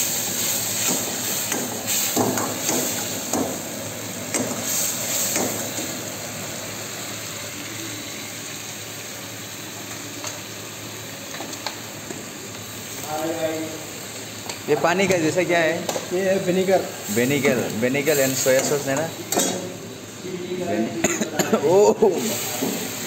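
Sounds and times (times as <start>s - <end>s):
gas burner hissing: 0.0s - 23.0s.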